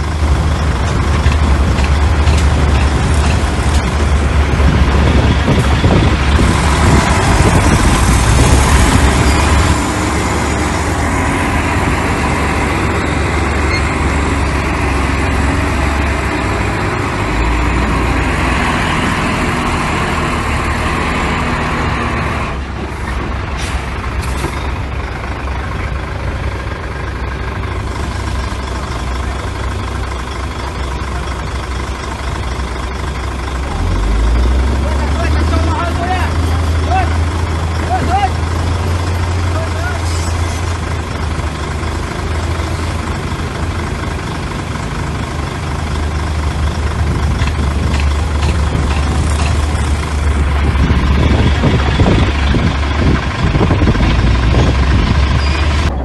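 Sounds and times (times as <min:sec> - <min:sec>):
diesel construction machinery rumbling: 0:00.0 - 0:56.0.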